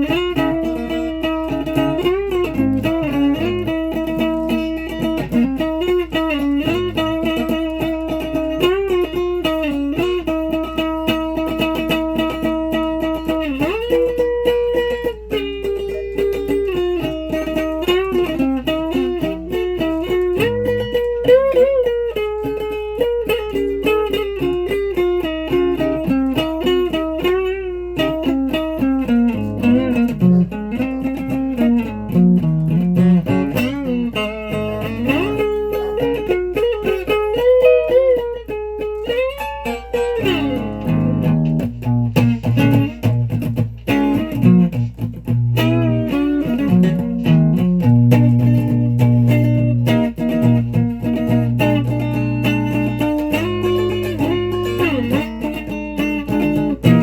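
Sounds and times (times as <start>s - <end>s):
guitar played note by note: 0.0s - 57.0s.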